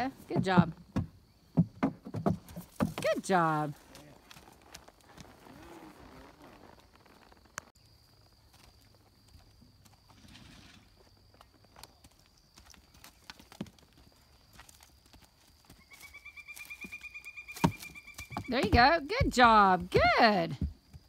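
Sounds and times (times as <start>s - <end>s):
horse hooves on grass and dirt: 0.0s - 21.0s.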